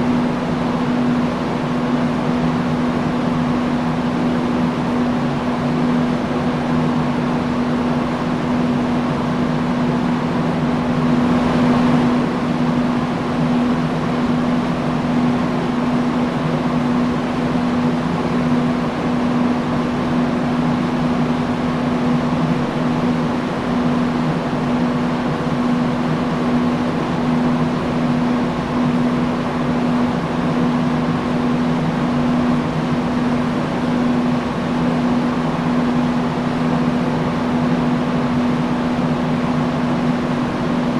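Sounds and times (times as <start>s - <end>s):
industrial fan running: 0.0s - 40.9s.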